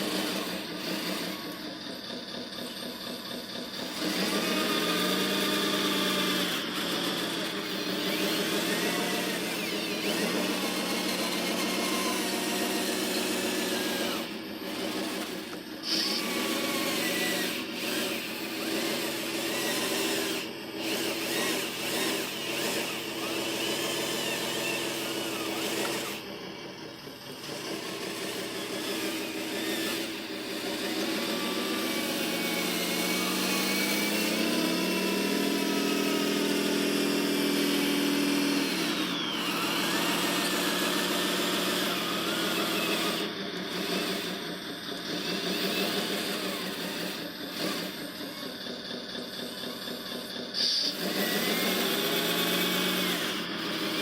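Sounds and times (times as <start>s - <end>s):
small electric motors whining: 0.0s - 54.0s.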